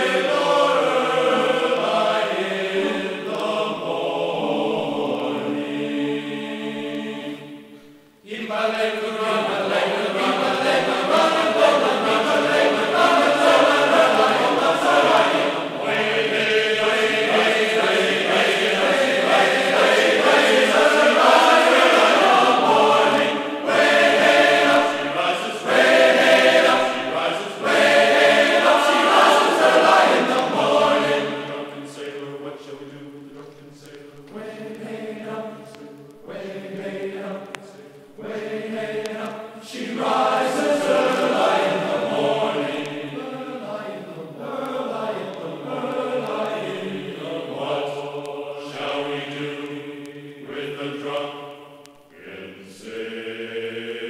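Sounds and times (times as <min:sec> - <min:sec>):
choir singing sustained notes: 0:00.0 - 0:54.0.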